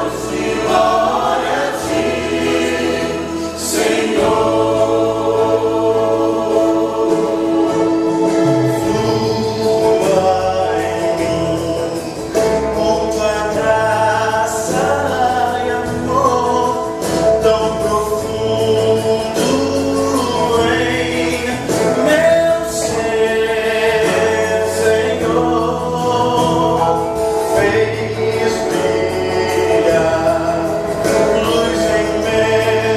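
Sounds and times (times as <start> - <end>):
bass and drums accompaniment: 0.0 - 32.9
gospel choir singing: 0.0 - 32.9
male soloist singing: 0.0 - 32.9.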